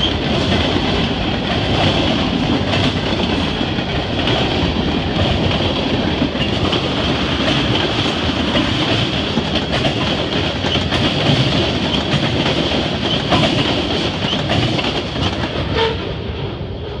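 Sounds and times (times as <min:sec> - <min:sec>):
train wheels clattering over joints: 0:00.0 - 0:16.2.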